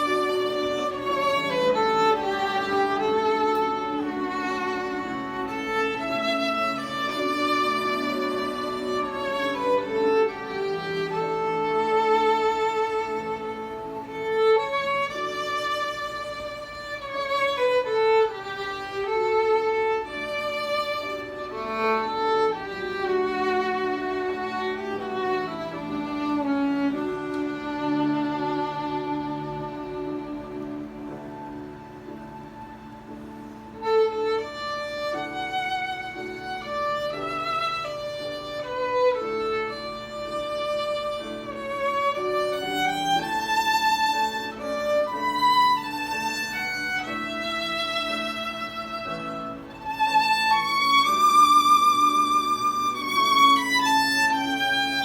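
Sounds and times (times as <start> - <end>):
soft accompaniment: 0.0 - 55.0
violin playing slow melody: 0.0 - 55.0.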